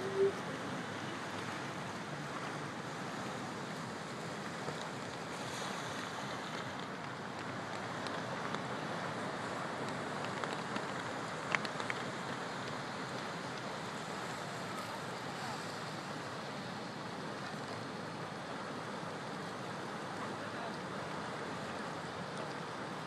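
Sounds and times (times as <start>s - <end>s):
water at shoreline: 0.0s - 23.0s
wind: 0.0s - 23.0s.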